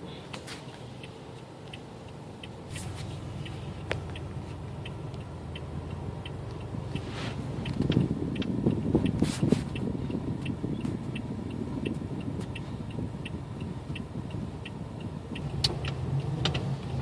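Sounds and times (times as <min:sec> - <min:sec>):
vehicle rumble: 0:00.0 - 0:17.0
sharp repeating ticks: 0:01.0 - 0:16.7.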